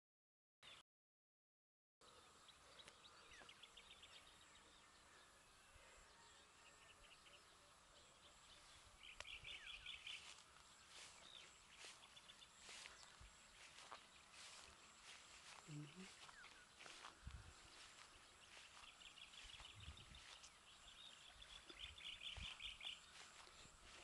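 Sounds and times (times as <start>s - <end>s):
small birds chirping: 2.0s - 24.0s.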